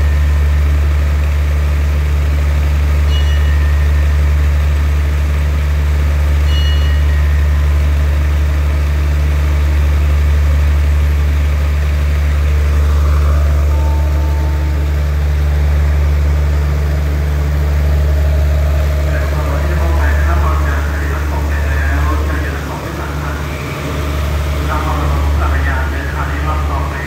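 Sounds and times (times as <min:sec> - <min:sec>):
diesel train idling: 0:00.0 - 0:27.0.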